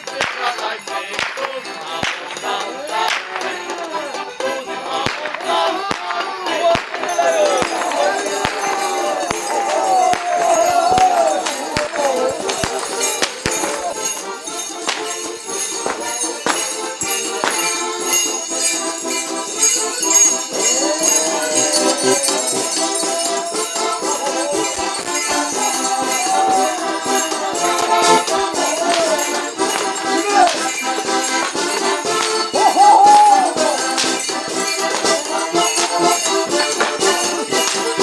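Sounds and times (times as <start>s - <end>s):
costume bells jingling: 0.0s - 38.0s.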